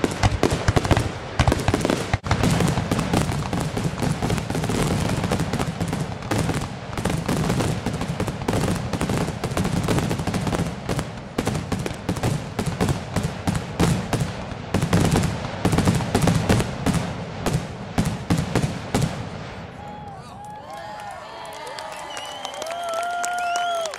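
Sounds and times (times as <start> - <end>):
fireworks bangs and crackles: 0.0 - 20.1.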